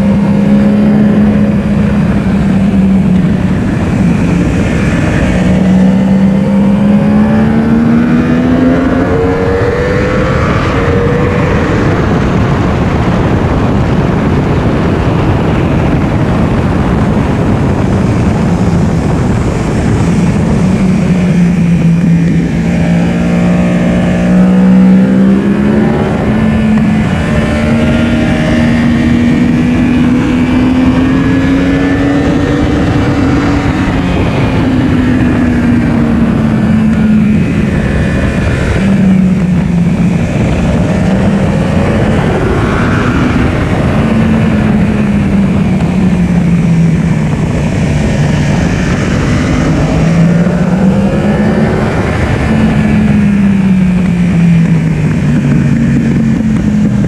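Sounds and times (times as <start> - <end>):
motorcycle engine running hard: 0.0 - 57.0
wind rush on microphone: 0.0 - 57.0.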